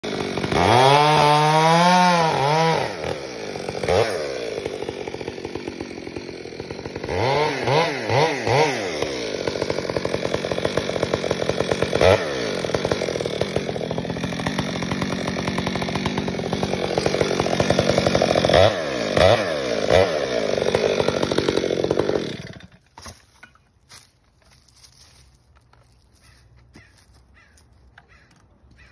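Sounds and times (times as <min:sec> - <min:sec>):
chainsaw revving and cutting wood: 0:00.0 - 0:27.5.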